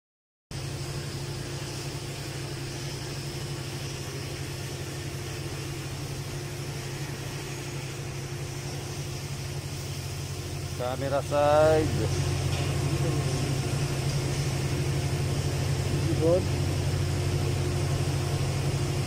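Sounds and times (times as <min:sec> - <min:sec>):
machinery humming: 0:00.6 - 0:19.0.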